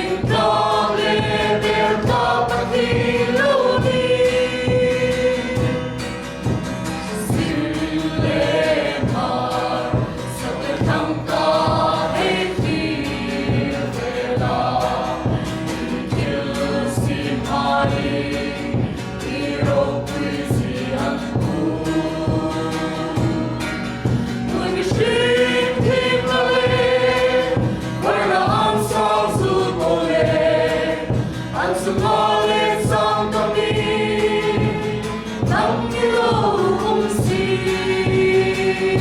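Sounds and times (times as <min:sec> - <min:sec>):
steady accompanying beat: 0:00.0 - 0:39.0
worship team singing: 0:00.0 - 0:39.0.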